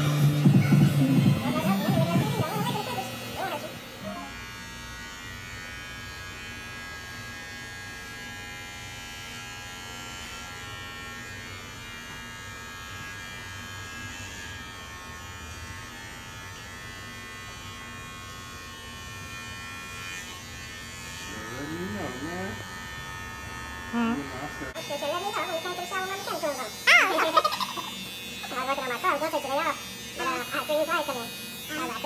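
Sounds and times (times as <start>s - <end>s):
electric hair clippers buzzing: 0.0s - 32.0s.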